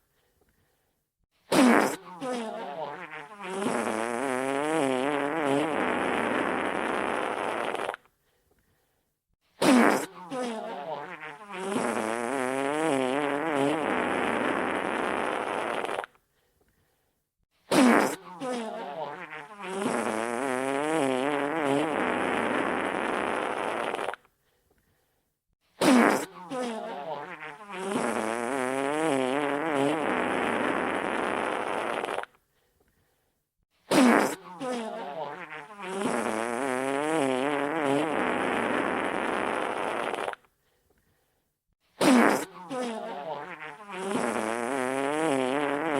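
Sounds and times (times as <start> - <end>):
wet fart sound effect: 1.5 - 8.1, 9.6 - 16.2, 17.7 - 24.3, 25.8 - 32.4, 33.9 - 40.5, 42.0 - 45.9.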